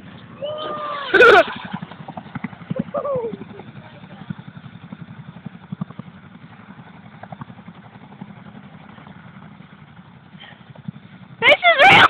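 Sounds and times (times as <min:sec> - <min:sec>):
helicopter rotor thumping: 0:01.4 - 0:12.0.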